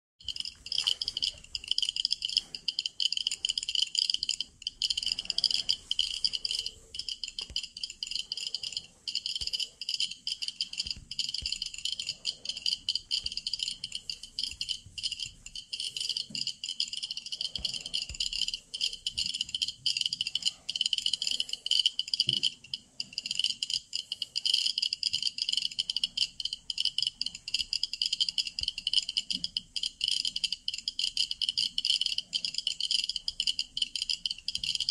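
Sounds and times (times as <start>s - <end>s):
geiger counters clicking: 0.2s - 34.9s.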